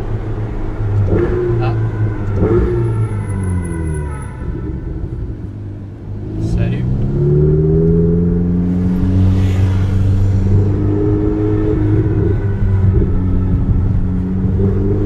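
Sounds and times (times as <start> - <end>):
sports car engine: 0.0 - 15.0.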